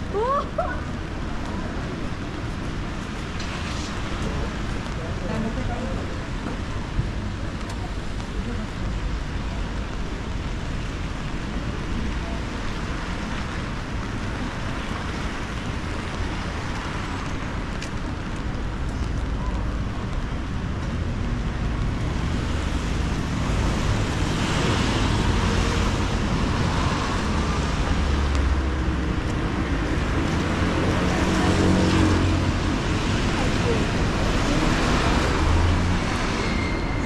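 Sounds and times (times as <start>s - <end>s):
tyres hissing on wet road: 0.0s - 37.0s
vehicle engines rumbling: 0.0s - 37.0s.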